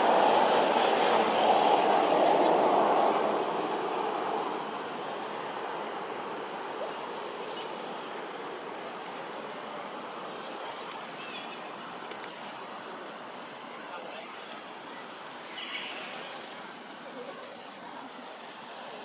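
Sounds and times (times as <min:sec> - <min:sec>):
forest ambience hiss: 0:00.0 - 0:19.0.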